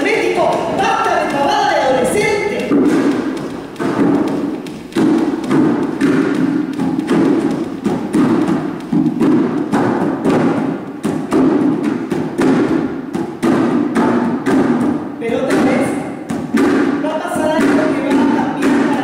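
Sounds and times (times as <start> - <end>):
music with thumping beat: 0.0 - 19.0.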